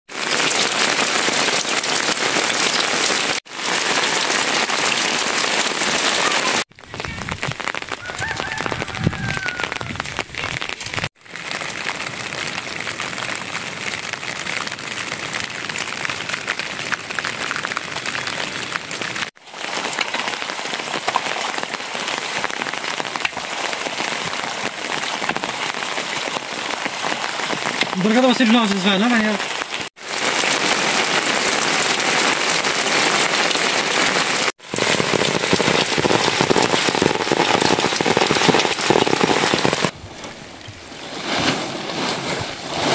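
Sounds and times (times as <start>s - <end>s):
steady rain: 0.1s - 42.9s.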